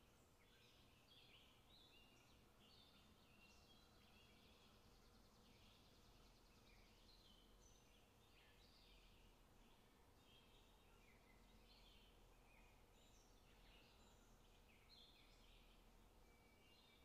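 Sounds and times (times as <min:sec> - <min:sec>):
birds chirping: 0:00.0 - 0:17.0
low hiss: 0:00.0 - 0:17.0.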